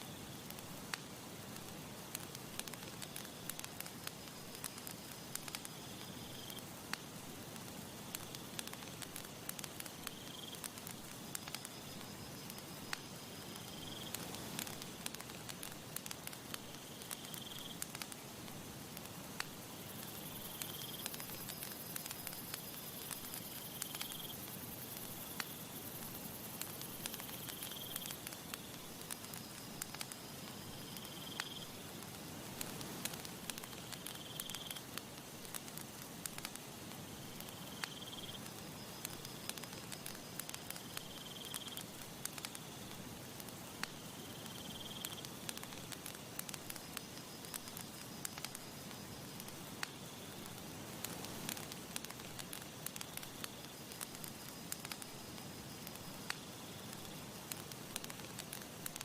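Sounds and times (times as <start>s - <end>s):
campfire crackling and popping: 0.0s - 59.0s
cricket chirping: 2.2s - 7.1s, 7.7s - 59.0s.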